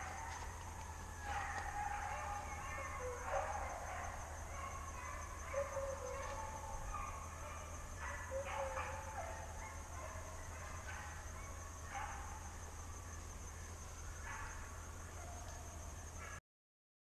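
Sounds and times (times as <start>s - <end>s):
hounds baying: 0.0s - 16.4s.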